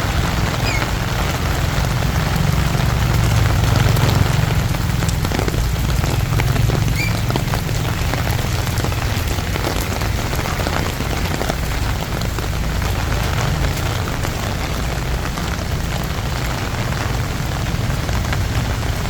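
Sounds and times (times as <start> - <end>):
heavy rain on a street: 0.0 - 19.0
raindrops ticking: 0.0 - 19.0.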